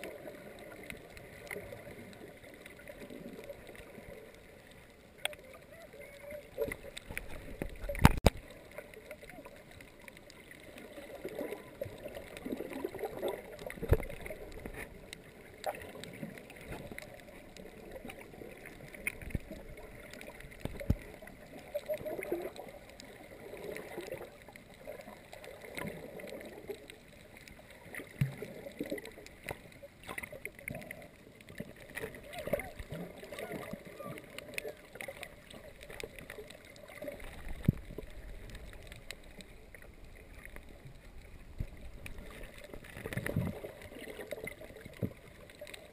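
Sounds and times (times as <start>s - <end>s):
underwater sloshing and gurgling: 0.0s - 45.9s.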